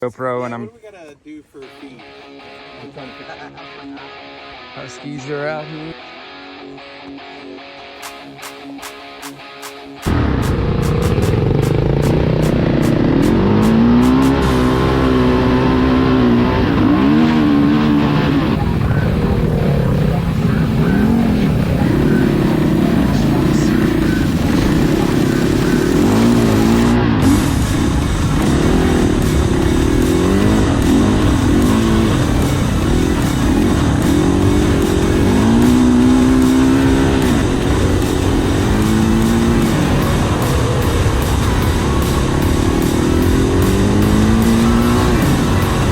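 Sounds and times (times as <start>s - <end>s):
dirt bike engine: 8.0s - 45.9s.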